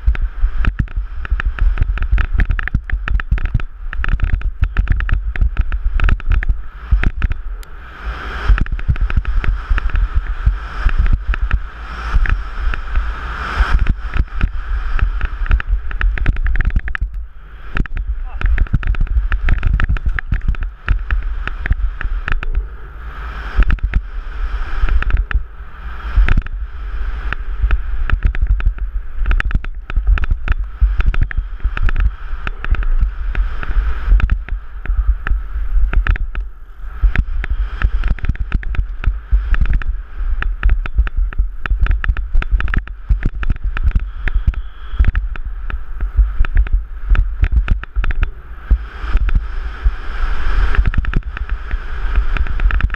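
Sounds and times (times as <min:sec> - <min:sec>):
bike rattling over bumps: 0:00.0 - 0:07.6, 0:08.4 - 0:22.6, 0:23.3 - 0:52.9
wind buffeting microphone: 0:00.0 - 0:52.9.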